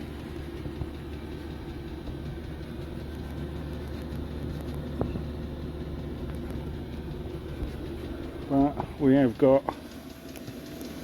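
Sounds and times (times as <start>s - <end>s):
air heater fan humming: 0.0s - 11.0s.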